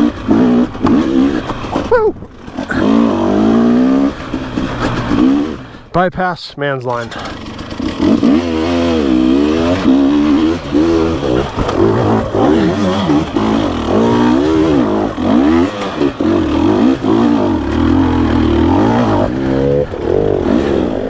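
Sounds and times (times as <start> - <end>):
dirt bike engine revving: 0.0 - 6.0, 6.9 - 21.0.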